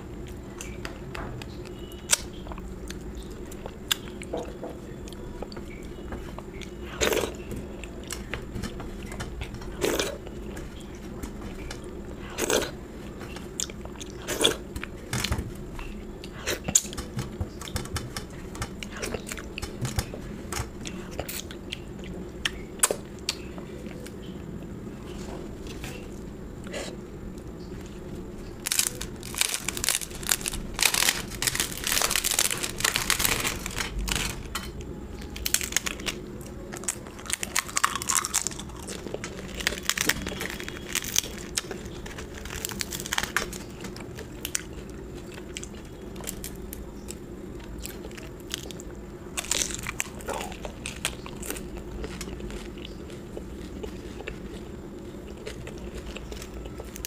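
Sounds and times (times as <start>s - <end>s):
crunching and chewing crisp food: 0.0s - 57.0s.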